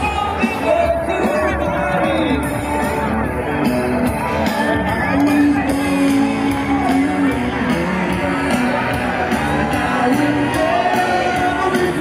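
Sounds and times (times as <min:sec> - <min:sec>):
crowd shouting and whooping: 0:00.0 - 0:12.0
pop music with singer: 0:00.0 - 0:12.0.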